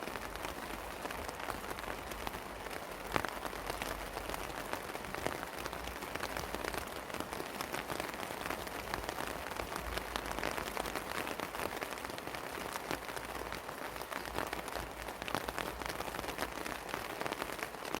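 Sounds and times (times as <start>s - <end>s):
raindrops ticking on surfaces: 0.0s - 18.0s
steady rain hiss: 0.0s - 18.0s.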